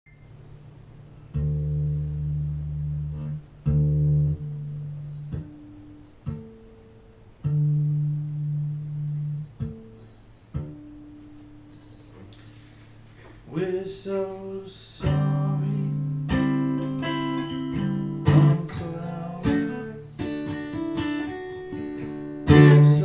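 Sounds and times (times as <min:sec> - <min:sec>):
plucked guitar notes: 0:01.2 - 0:12.1, 0:15.0 - 0:23.0.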